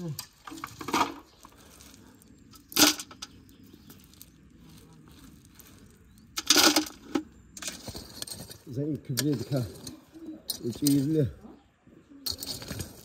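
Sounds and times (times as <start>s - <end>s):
stones clattering in metal bucket: 0.0s - 11.4s, 12.2s - 13.0s.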